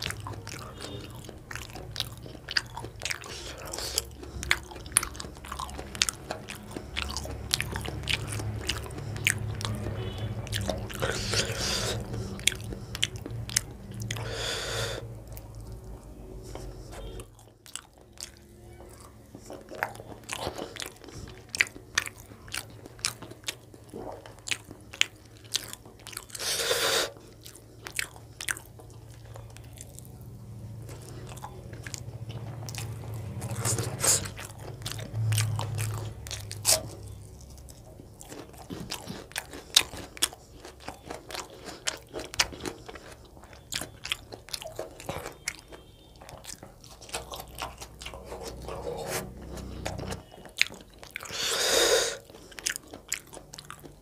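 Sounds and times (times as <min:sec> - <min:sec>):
man chewing and crunching: 0:00.0 - 0:54.0.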